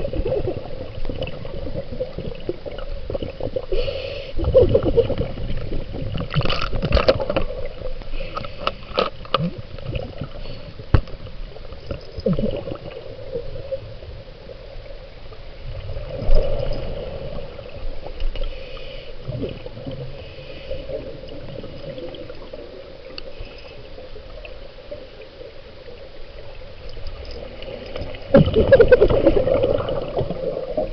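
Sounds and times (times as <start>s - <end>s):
water gurgling and sloshing: 0.0s - 30.9s.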